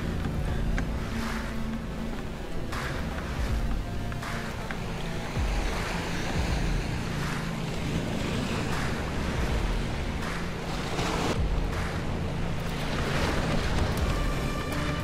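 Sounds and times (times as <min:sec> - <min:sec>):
small waves breaking on rocks: 0:00.0 - 0:15.0
wind buffeting microphone: 0:00.0 - 0:15.0.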